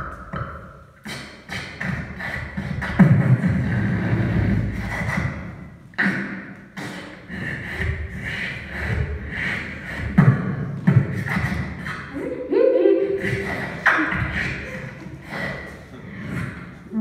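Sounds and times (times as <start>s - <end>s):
person beatboxing: 0.0s - 17.0s.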